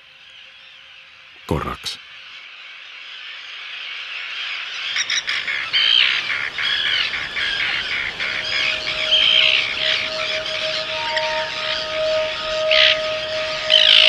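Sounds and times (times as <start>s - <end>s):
flock of seabirds calling: 0.0s - 14.0s.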